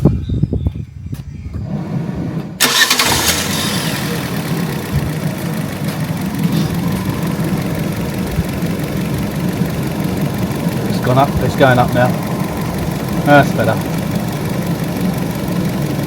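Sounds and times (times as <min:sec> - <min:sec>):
car engine idling: 0:02.6 - 0:16.0.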